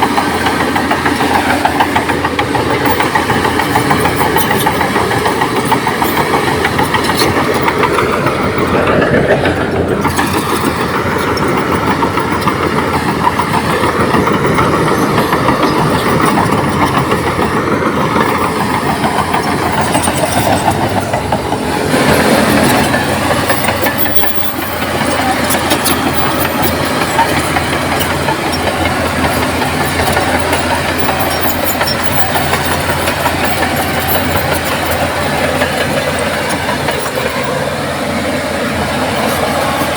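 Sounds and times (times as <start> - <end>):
dense fast rattle: 0.0 - 37.9
bulldozer diesel engine: 0.0 - 39.9.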